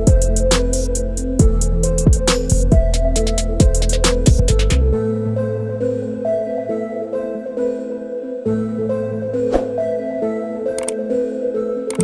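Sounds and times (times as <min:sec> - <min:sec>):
gentle background melody: 0:00.0 - 0:12.0.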